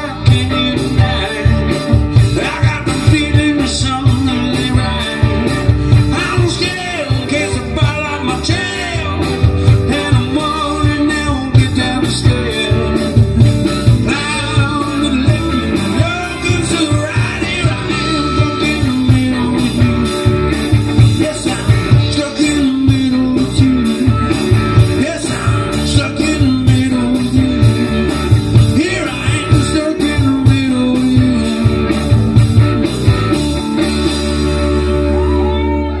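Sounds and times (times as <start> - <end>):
lead singer: 0.0 - 36.0
live rock band playing: 0.0 - 36.0.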